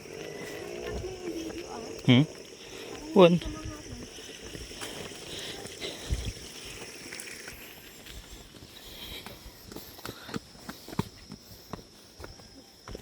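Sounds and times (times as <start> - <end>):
footsteps on hiking trail: 0.0 - 13.0.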